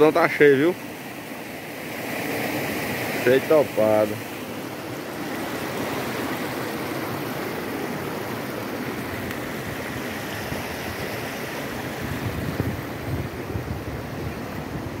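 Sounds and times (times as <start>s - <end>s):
water rushing down spillway: 0.0s - 15.0s.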